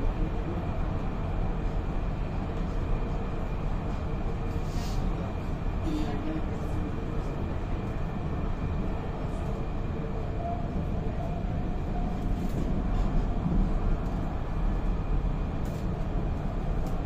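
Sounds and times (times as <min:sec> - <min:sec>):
tram wheels rumbling on track: 0:00.0 - 0:17.0.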